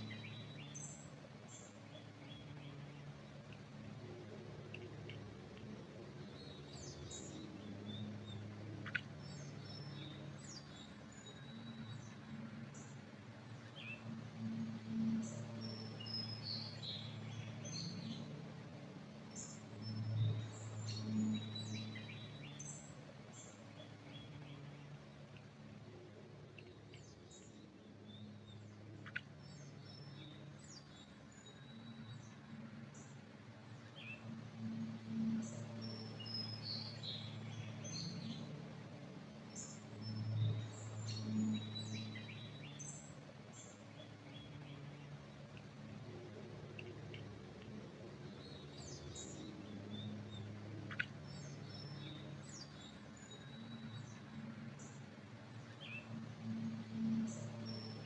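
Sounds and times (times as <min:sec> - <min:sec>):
low steady hum: 0:00.0 - 0:58.0
songbirds chirping: 0:00.0 - 0:58.0.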